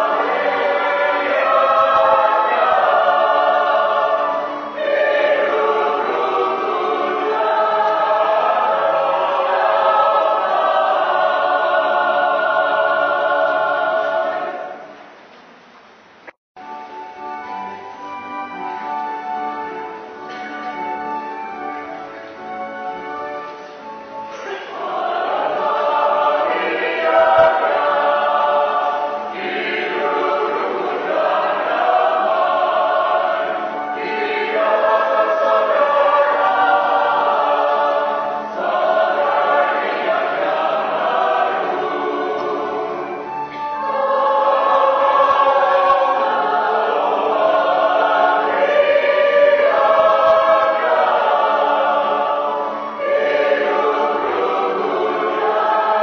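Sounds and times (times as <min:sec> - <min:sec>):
choir singing a hymn: 0:00.0 - 0:15.1, 0:16.6 - 0:56.0.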